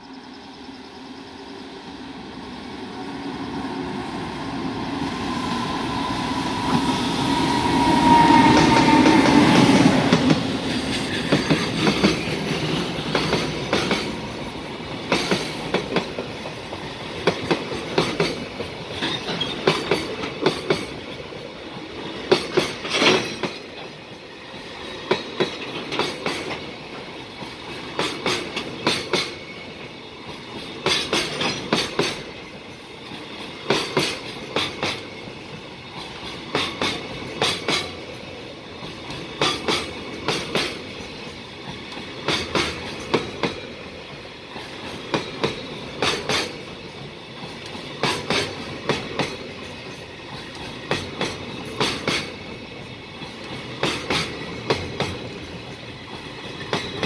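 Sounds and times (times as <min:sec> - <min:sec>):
electric locomotive whine: 0:00.0 - 0:57.0
wheels clickety-clack on rail joints: 0:07.6 - 0:57.0.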